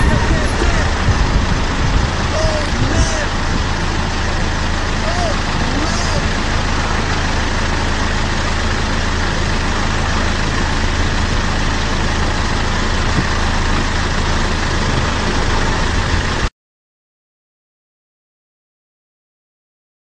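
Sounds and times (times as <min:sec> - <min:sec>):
low engine-like hum: 0:00.0 - 0:16.5.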